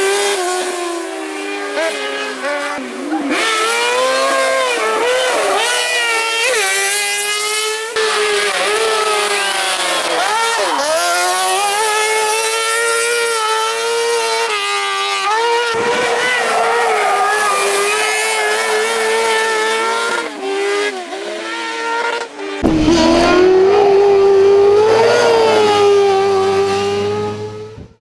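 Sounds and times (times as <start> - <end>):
high-revving engine screaming: 0.0 - 28.0.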